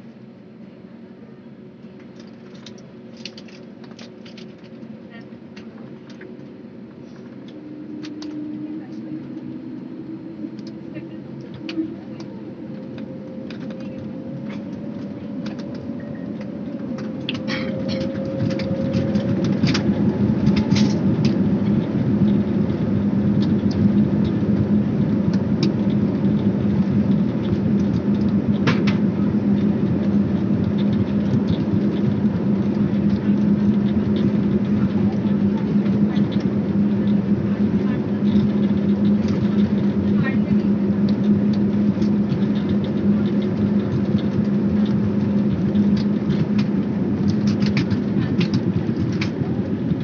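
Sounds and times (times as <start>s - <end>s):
jet engines rumbling: 0.0s - 50.0s.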